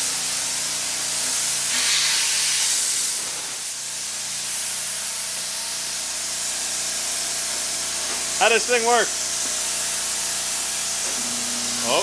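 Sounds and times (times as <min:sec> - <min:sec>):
air compressor running: 0:00.0 - 0:12.0
compressed air hissing: 0:00.9 - 0:12.0.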